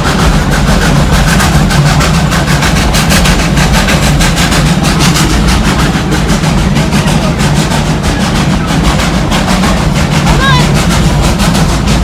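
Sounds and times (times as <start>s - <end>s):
railroad car rumble and clatter: 0.0s - 12.0s.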